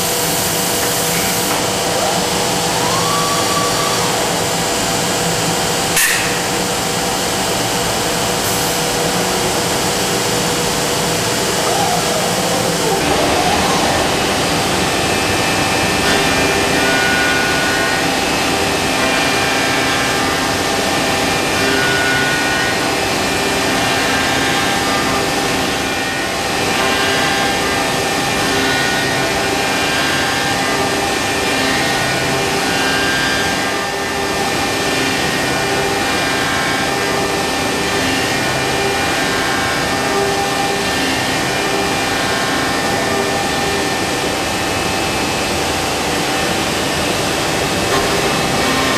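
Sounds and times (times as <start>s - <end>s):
woodworking machine whining: 0.0s - 48.9s.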